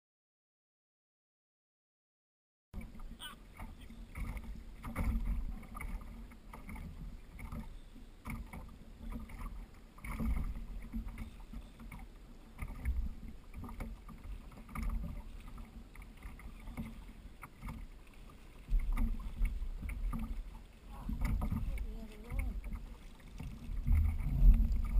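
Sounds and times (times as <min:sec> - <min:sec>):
water lapping against hull: 0:02.8 - 0:24.9.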